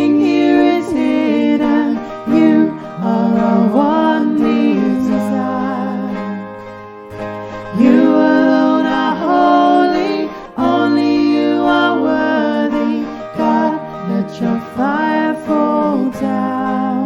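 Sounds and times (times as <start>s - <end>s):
voices singing long notes: 0.0s - 6.5s, 7.7s - 17.0s
acoustic guitar: 0.0s - 17.0s.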